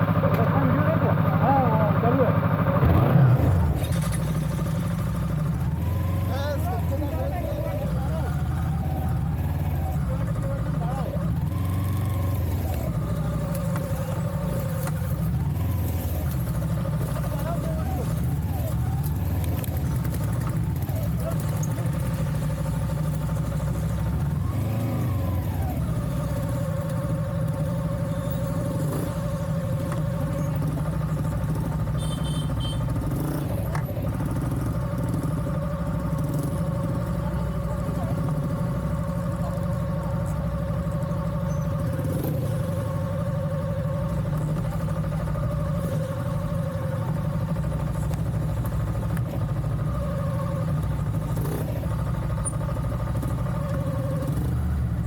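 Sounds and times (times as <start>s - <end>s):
vehicle engine rumbling off-road: 0.0s - 55.0s.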